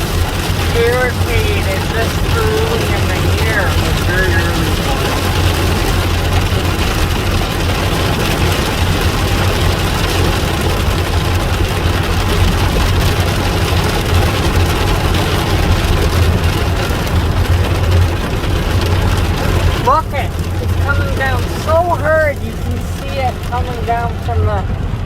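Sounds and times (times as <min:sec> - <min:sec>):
car engine idling: 0:00.0 - 0:25.0
heavy rain on car roof: 0:00.0 - 0:25.0.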